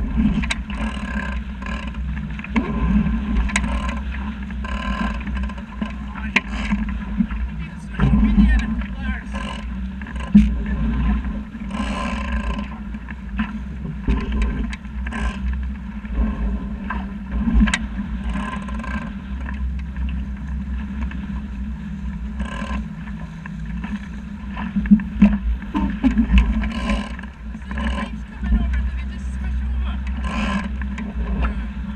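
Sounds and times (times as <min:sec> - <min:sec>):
boat splashing through chop: 0:00.0 - 0:31.9
water rushing along hull: 0:00.0 - 0:31.9
wind buffeting microphone: 0:00.0 - 0:31.9.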